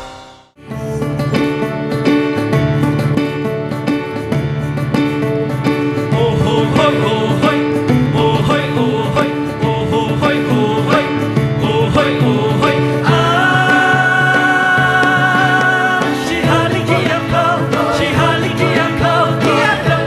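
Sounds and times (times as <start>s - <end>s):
plucked string notes: 0.0s - 20.0s.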